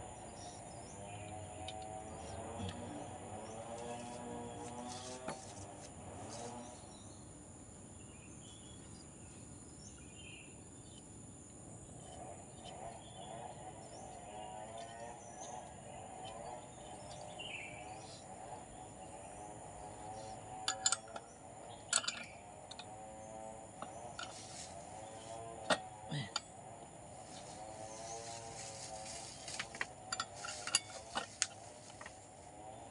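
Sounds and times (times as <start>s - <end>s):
insect drone: 0.0s - 32.9s.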